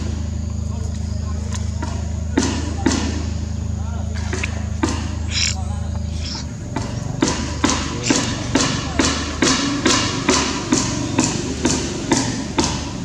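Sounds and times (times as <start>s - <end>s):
regular thumps: 0.0s - 13.0s
steady low hum: 0.0s - 13.0s.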